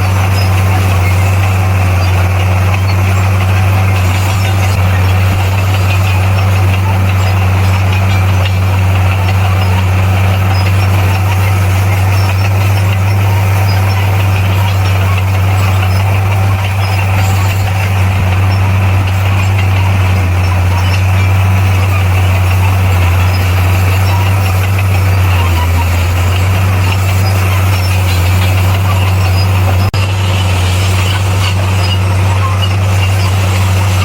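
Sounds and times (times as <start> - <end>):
bulldozer diesel engine droning: 0.0 - 34.0.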